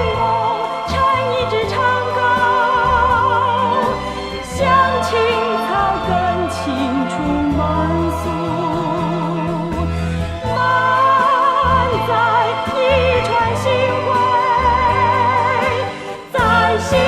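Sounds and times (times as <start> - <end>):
operatic singing: 0.0 - 17.0.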